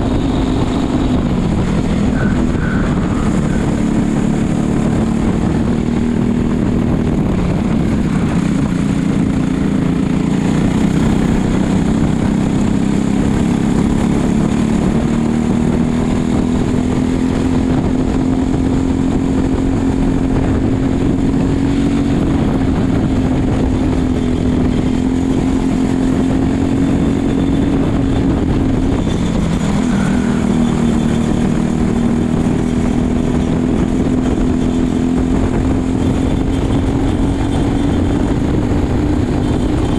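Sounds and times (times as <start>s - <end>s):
kart engine at speed: 0.0s - 39.9s
wind and track noise: 0.0s - 39.9s.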